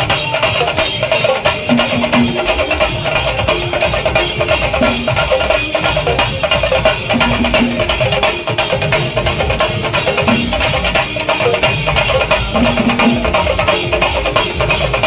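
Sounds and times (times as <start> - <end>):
drum troupe playing fast rhythm: 0.0 - 15.0.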